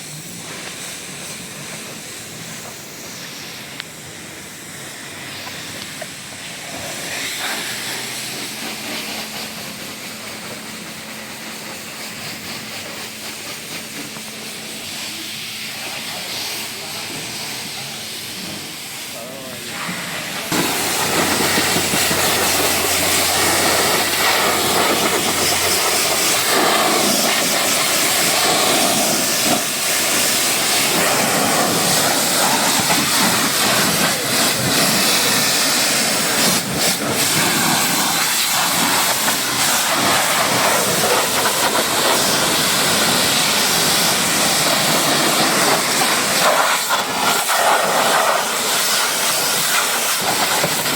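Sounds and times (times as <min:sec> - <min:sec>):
high-pressure water spray hissing: 0:00.0 - 0:50.9.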